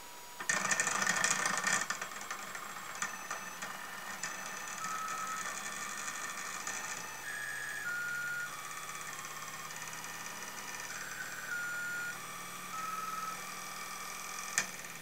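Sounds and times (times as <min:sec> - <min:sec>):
toy motor whirring: 0:00.4 - 0:15.0.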